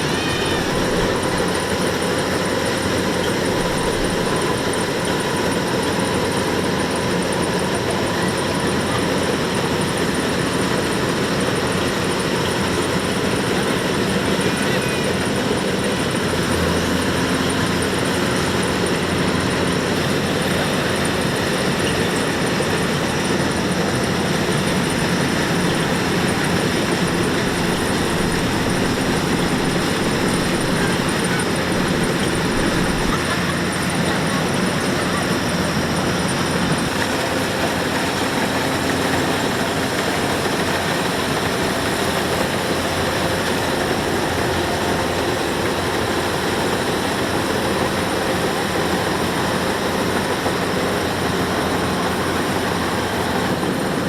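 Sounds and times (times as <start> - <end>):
diesel engine running: 0.0 - 54.0
threshing machinery running: 0.0 - 54.0.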